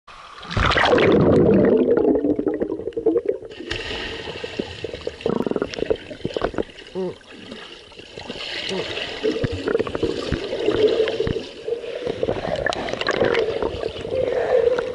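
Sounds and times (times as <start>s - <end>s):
underwater bubbling and gurgling: 0.1s - 14.9s
crackle of bubbles: 0.4s - 14.9s.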